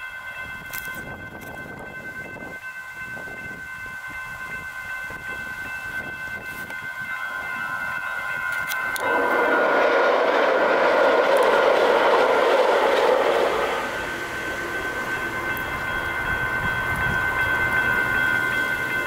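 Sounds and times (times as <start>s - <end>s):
crossing warning bell ringing: 0.0s - 19.0s
train wheel and rail noise: 0.0s - 19.0s.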